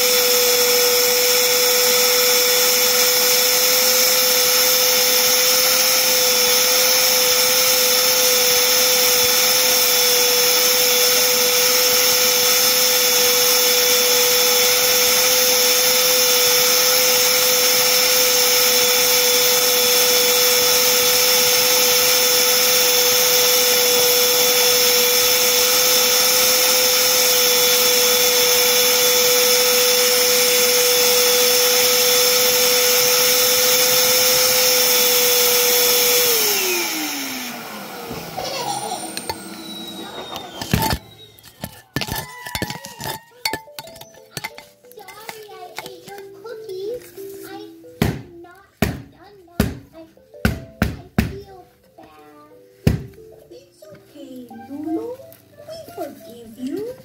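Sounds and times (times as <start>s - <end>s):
vacuum cleaner running: 0.0s - 46.3s.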